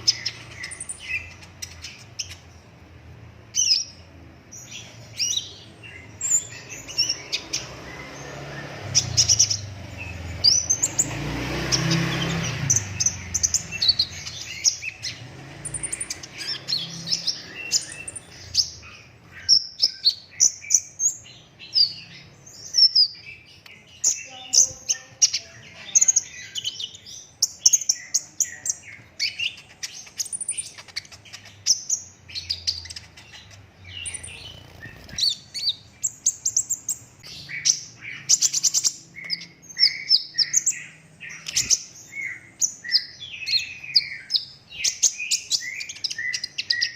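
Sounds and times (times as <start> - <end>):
sunbird singing high chirps and trills: 0.0 - 46.9.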